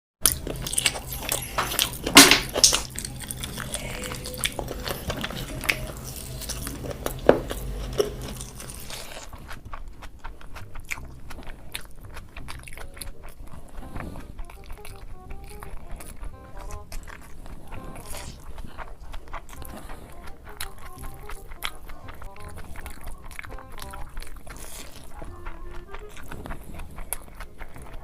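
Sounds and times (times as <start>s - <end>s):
low steady hum: 0.2s - 28.0s
wet chewing and biting: 0.2s - 28.0s.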